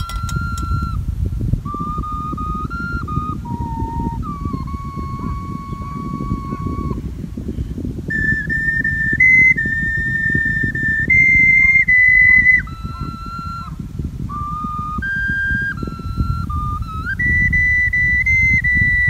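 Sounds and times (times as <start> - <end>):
ocarina notes: 0.0 - 7.1, 8.0 - 19.0.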